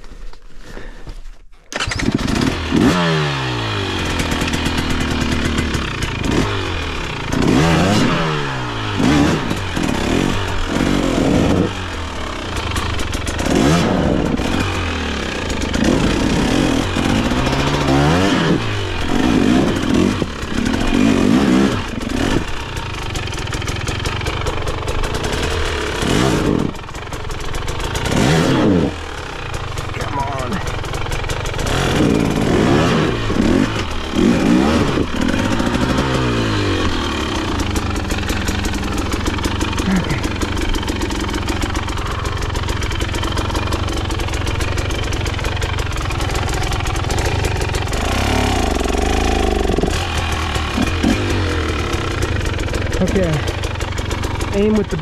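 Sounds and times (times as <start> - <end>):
dirt bike engine revving: 1.7 - 55.0.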